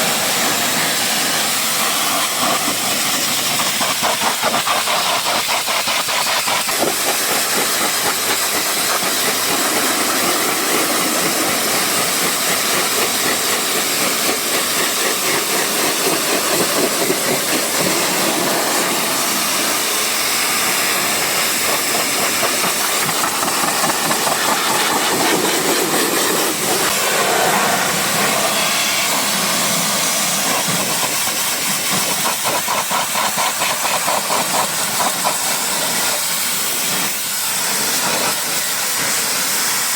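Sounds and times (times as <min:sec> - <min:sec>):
high-pressure spray wand hissing: 0:00.0 - 0:39.9.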